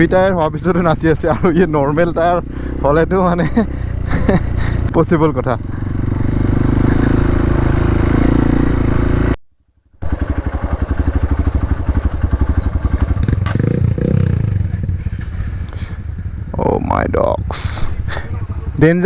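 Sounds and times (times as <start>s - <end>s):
motorcycle engine running: 0.0s - 9.4s, 10.0s - 19.0s.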